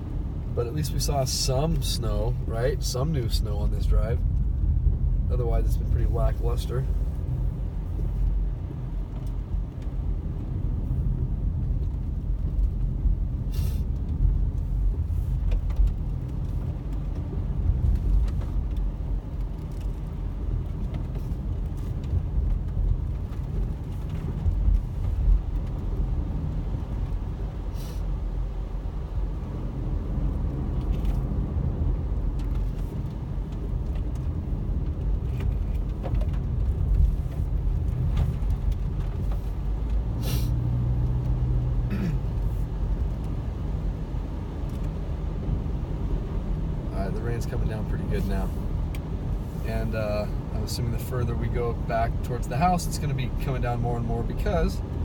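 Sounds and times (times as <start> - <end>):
car road noise on wet road: 0.0 - 55.0.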